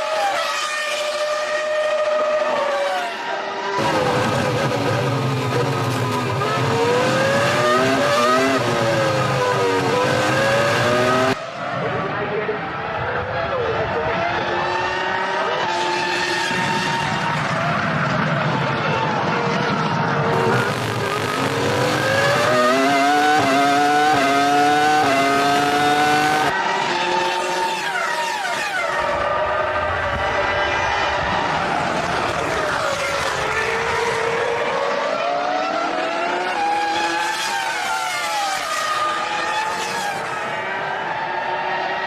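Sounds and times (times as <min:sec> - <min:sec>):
racing car engine at high revs: 0:00.0 - 0:42.0.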